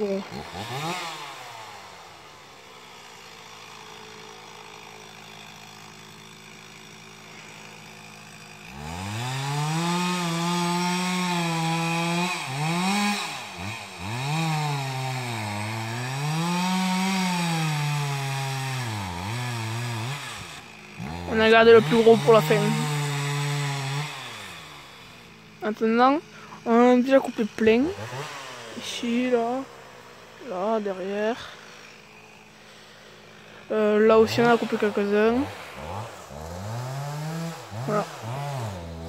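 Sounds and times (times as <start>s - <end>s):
chainsaw revving: 0.0s - 39.0s.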